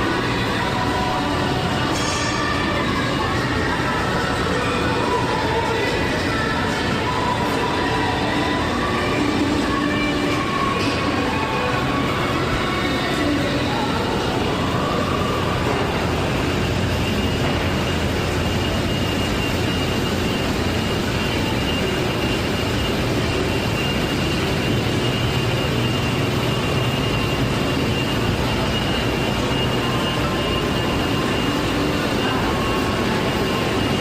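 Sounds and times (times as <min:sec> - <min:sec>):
faint high whine: 0:00.0 - 0:34.0
ventilation fan drone: 0:00.0 - 0:34.0.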